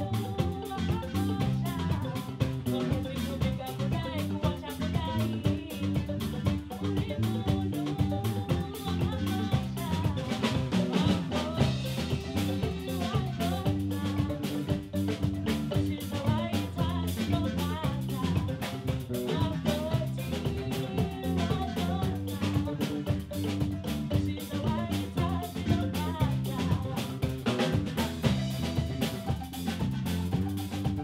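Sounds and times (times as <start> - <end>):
woman singing: 0.0 - 28.6
bass guitar: 0.0 - 31.0
drum kit beat: 0.0 - 31.0
wooden marimbas: 0.0 - 31.0.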